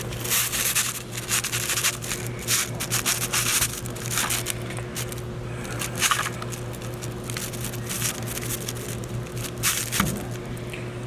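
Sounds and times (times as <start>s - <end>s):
rustling and scraping handling: 0.0s - 10.6s
steady low hum: 0.0s - 11.0s.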